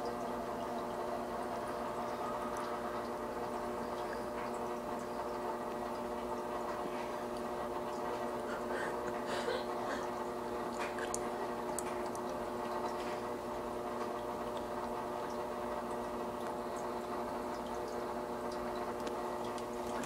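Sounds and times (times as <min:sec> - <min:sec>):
aquarium filter pump hum: 0:00.0 - 0:20.0
small drips and ticks: 0:00.0 - 0:20.0
water trickling: 0:00.0 - 0:20.0.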